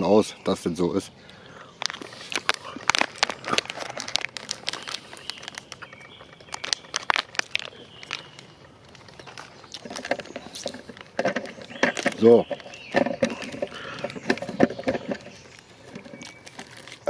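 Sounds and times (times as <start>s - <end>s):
plastic candy wrapper crinkling: 1.6s - 17.0s.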